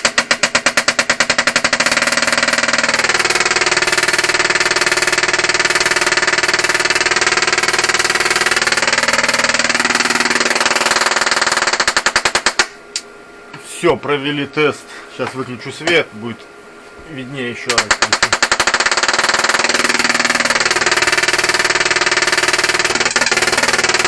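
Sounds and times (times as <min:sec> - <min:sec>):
tesla coil sparks buzzing: 0:00.0 - 0:16.4, 0:17.1 - 0:24.0.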